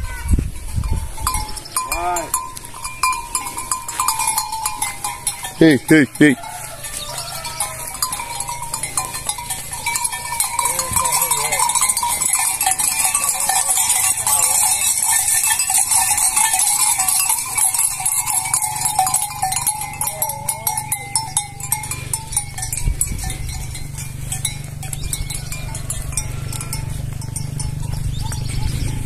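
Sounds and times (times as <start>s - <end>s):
sheep bells clanking: 0.0s - 29.0s.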